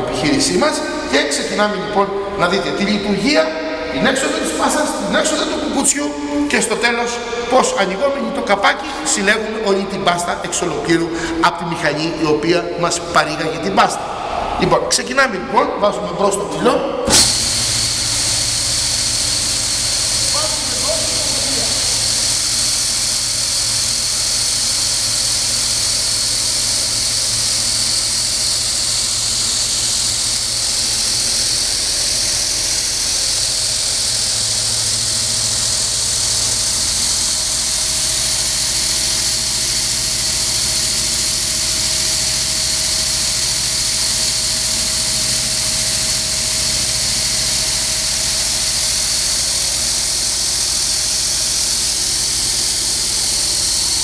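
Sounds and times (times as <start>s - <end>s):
low motor hum: 0.0s - 54.0s
machine whirring and hissing: 0.0s - 54.0s.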